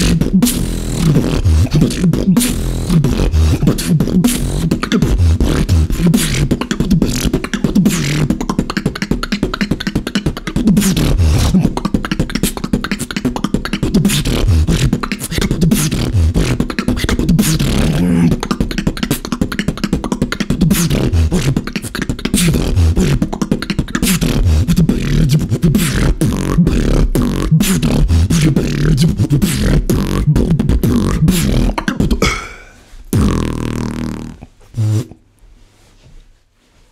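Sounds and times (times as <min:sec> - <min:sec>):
human beatbox rhythm: 0:00.0 - 0:35.2.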